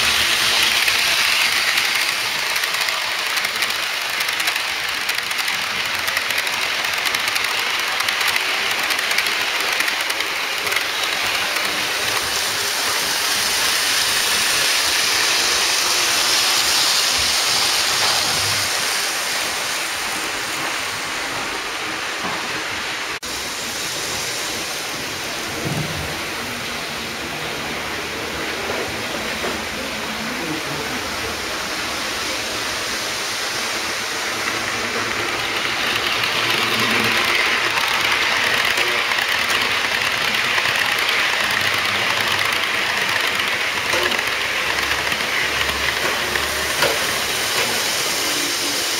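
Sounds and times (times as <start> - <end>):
model trains running on track: 0.0 - 48.9.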